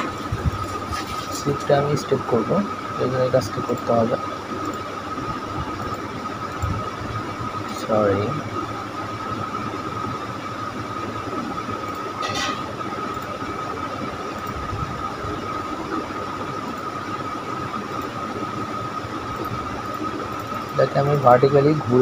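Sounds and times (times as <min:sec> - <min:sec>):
high-pitched whine: 0:00.0 - 0:22.0.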